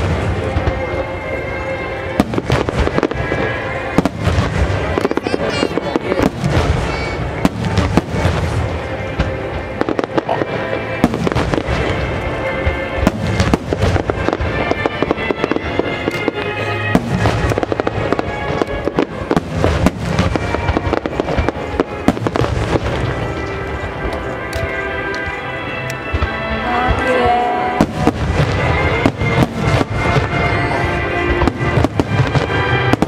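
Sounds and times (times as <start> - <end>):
fireworks bangs and crackles: 0.0 - 33.0
music: 0.0 - 33.0.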